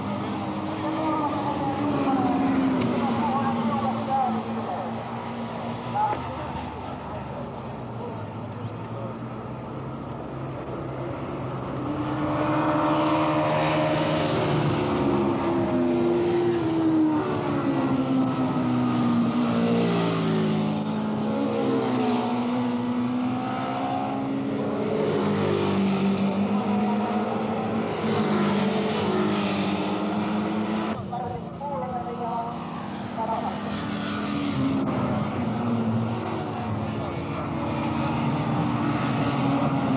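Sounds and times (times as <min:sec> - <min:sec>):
racing motorcycle engines revving: 0:00.0 - 0:39.9.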